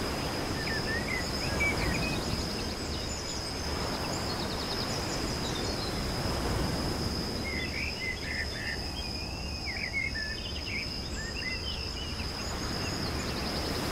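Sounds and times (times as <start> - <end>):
insect drone: 0.0 - 13.9.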